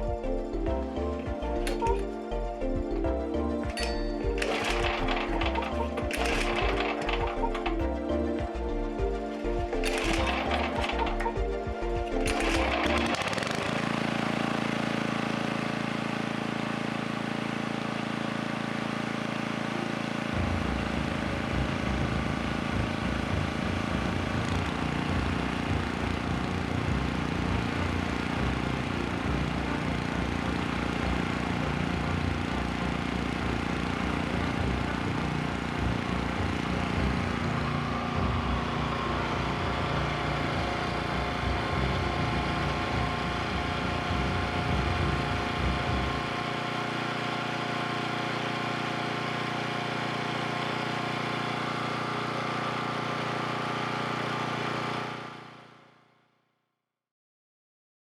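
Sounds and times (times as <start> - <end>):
generator engine chugging: 0.0 - 55.8.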